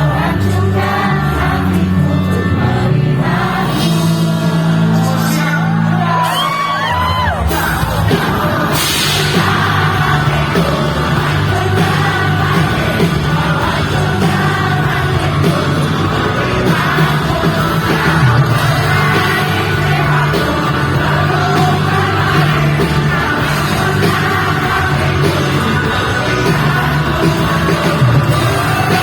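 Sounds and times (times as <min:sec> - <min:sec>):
live pop-rock band with singing: 0:00.0 - 0:29.0.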